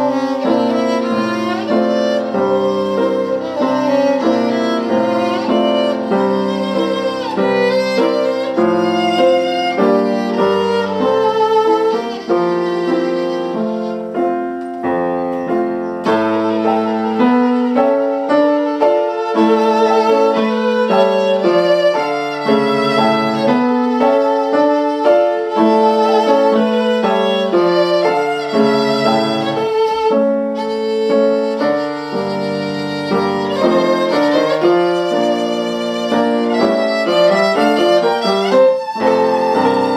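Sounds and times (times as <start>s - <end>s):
piano accompaniment: 0.0s - 39.9s
violin playing classical piece: 0.0s - 39.9s.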